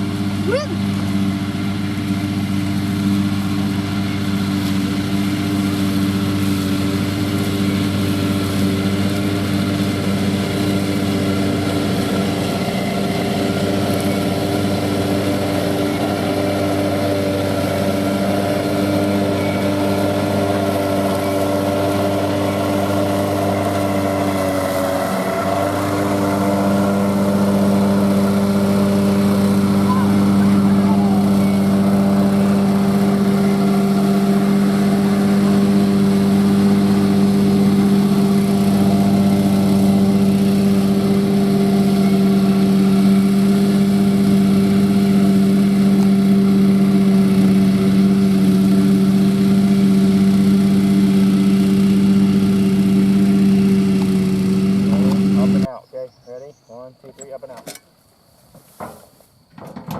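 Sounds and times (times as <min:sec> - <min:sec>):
tractor engine under load: 0:00.0 - 0:55.7, 0:59.5 - 0:59.9.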